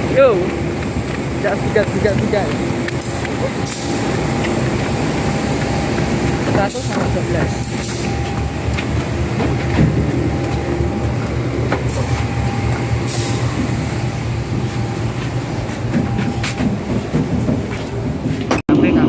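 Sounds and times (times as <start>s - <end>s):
diesel train rumbling: 0.0s - 19.0s.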